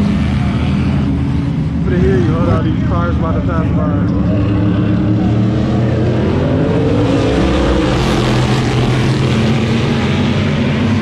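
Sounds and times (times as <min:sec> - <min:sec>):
race cars passing at high revs: 0:00.0 - 0:11.0.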